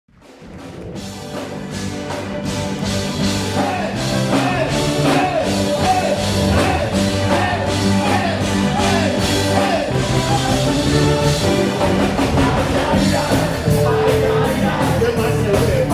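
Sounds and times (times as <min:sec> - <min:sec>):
ska band playing live: 0:00.2 - 0:15.9.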